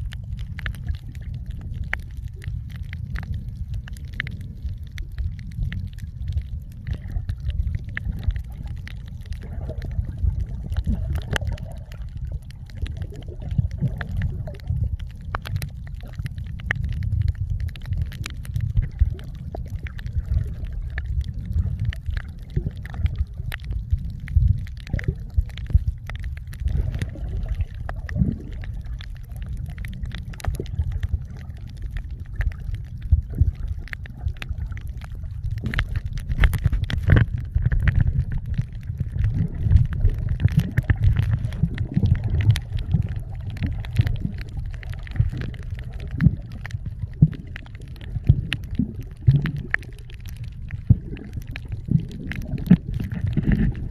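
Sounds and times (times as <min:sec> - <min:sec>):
muffled underwater rumble: 0:00.0 - 0:53.9
sharp clicks and crackles: 0:00.0 - 0:53.9.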